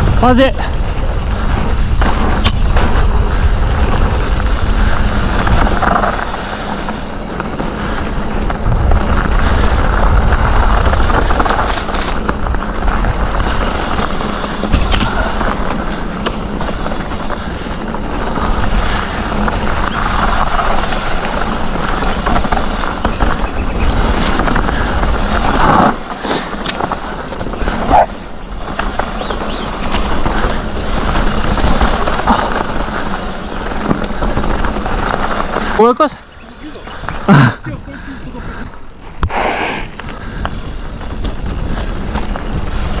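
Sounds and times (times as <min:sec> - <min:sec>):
bike rattling over bumps: 0:00.0 - 0:43.0
bike tyres crunching over gravel: 0:00.0 - 0:43.0
wind rushing over microphone: 0:00.0 - 0:43.0.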